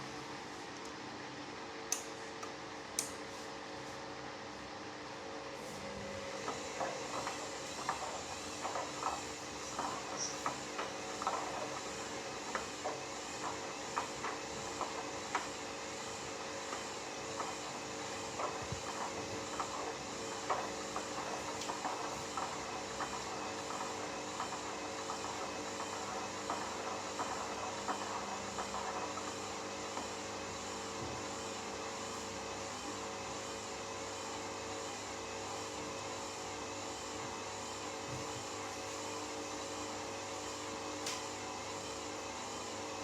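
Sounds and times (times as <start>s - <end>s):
washing machine motor humming: 0.0s - 43.0s.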